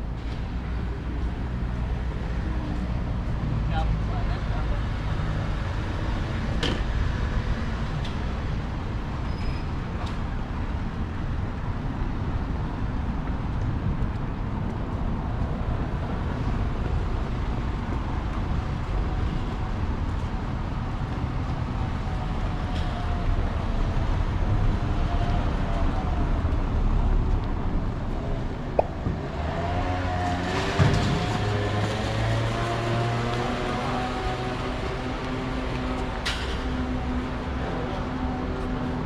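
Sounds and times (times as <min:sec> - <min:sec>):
low rumble of traffic: 0:00.0 - 0:39.0.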